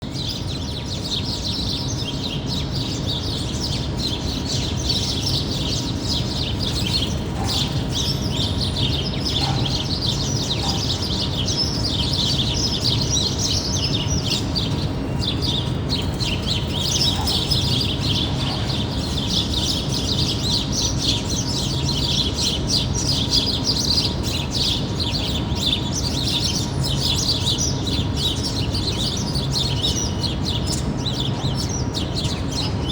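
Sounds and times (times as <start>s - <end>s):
small birds chirping: 0.0s - 32.9s
distant city rumble: 0.3s - 32.9s.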